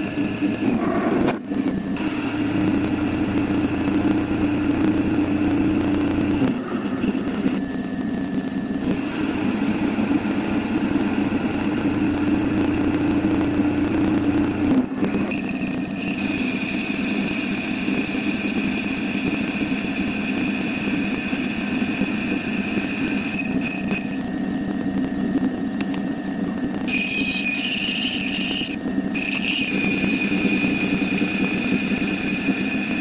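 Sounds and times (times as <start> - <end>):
metal lathe running: 0.0 - 24.6, 26.9 - 33.0
high machine whine: 0.0 - 33.0.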